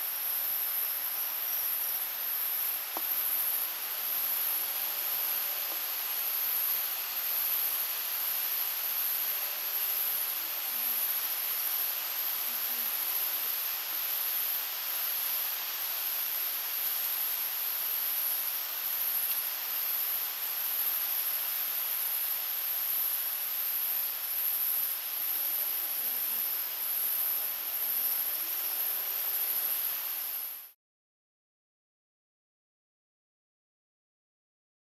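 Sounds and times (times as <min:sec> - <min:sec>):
general hiss: 0:00.0 - 0:30.8
insects droning: 0:00.0 - 0:30.8.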